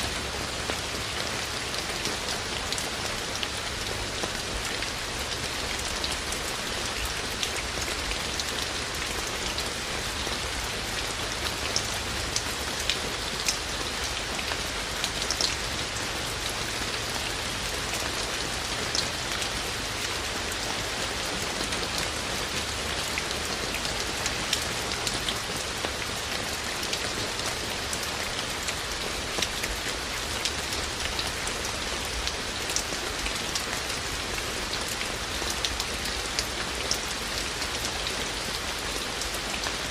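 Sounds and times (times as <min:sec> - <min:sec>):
raindrops ticking on hard surfaces: 0:00.0 - 0:39.9
steady rain hiss: 0:00.0 - 0:39.9.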